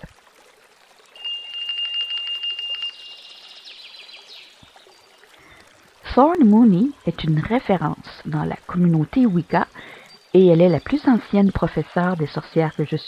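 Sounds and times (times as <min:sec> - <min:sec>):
faint trickling water: 0:00.0 - 0:13.0.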